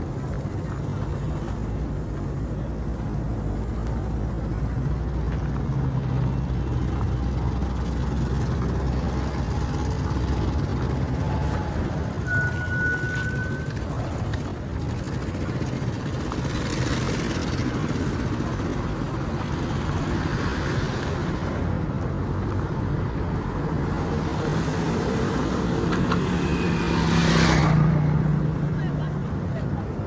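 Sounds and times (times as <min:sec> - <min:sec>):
vehicle engines running: 0:00.0 - 0:30.0.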